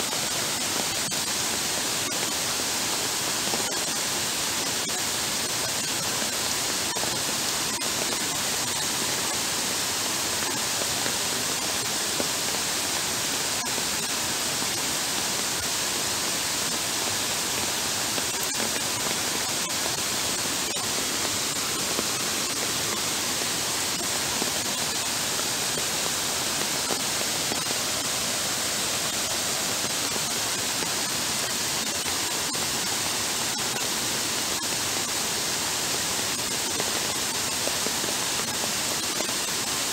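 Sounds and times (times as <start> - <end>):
heavy rain pouring: 0.0 - 39.9
floodwater running over pavement: 0.2 - 39.9.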